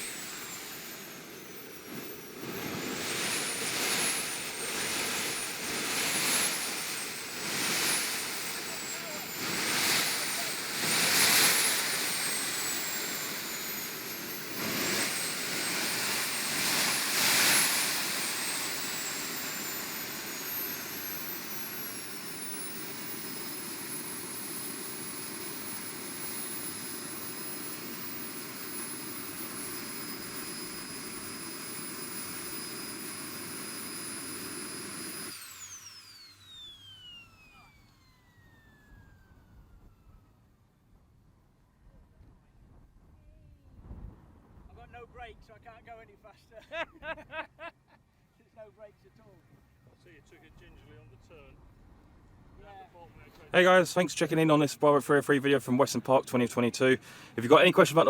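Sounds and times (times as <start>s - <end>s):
model jet engine whining: 0.0s - 40.8s, 52.3s - 58.0s.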